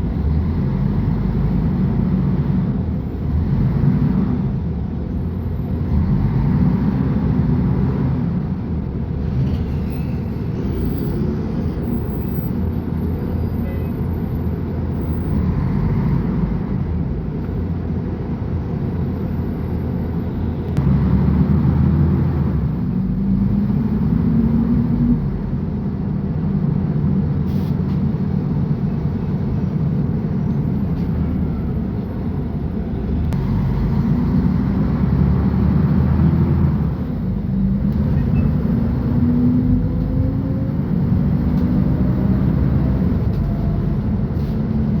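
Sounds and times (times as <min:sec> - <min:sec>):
bus diesel engine running: 0:00.0 - 0:45.0.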